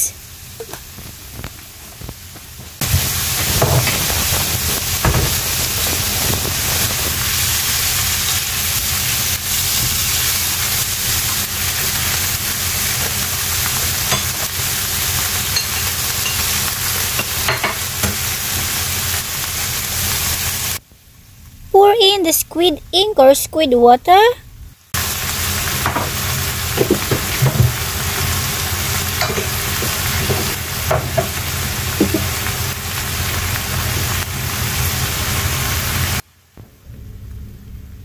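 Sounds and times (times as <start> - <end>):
squid and onions sizzling in a pan: 0.0 - 20.8, 24.8 - 36.5.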